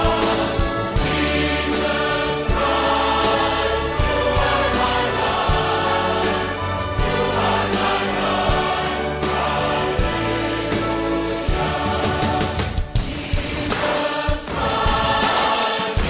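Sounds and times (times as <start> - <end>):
drum hits: 0.0 - 10.4, 11.5 - 16.0
choir singing: 0.0 - 16.0.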